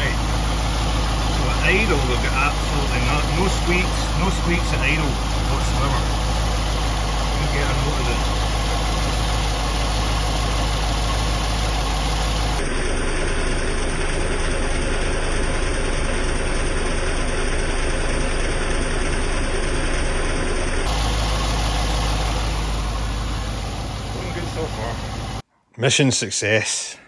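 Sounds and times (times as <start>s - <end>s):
car engine idling: 0.0s - 25.4s.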